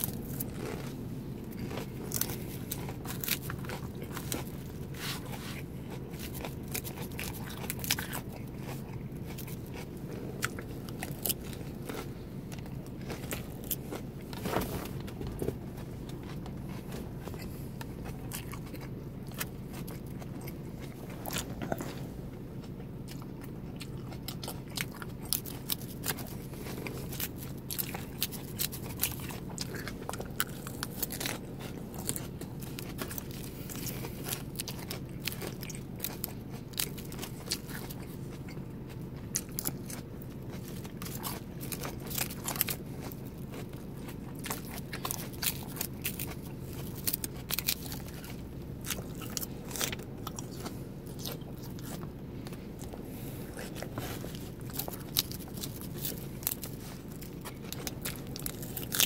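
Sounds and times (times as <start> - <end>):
chewing and crunching salad: 0.0 - 59.0
steady low hum: 0.0 - 59.0.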